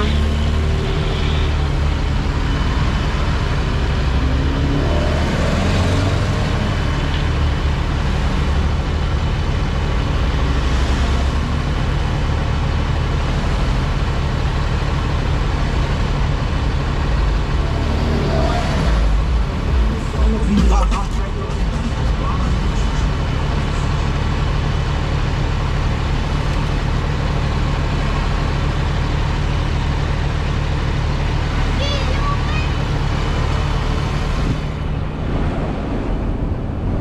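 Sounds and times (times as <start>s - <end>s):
road traffic noise: 0.0s - 37.0s
vehicle engines rumbling: 0.0s - 37.0s.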